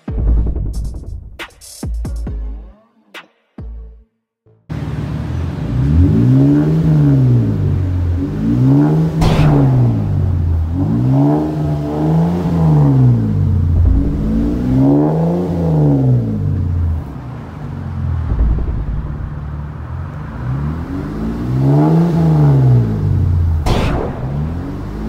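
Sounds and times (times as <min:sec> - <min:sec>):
car engine idling: 0:04.7 - 0:25.0
car engine revving: 0:04.7 - 0:25.0.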